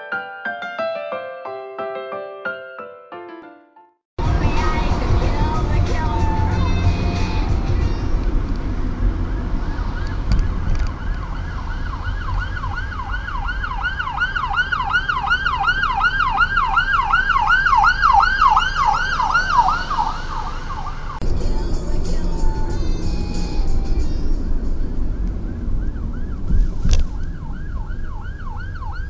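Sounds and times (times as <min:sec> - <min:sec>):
low car rumble: 0:04.2 - 0:29.0
police siren yelping: 0:04.2 - 0:29.0.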